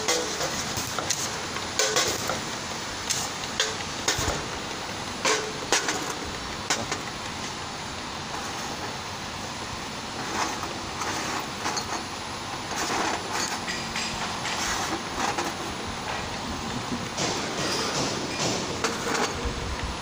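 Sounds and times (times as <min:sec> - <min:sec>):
labelling machine running: 0:00.0 - 0:20.0.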